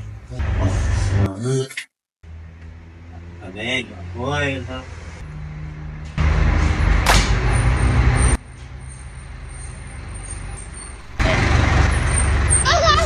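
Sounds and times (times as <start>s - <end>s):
vehicle engine rumbling: 2.2s - 13.0s.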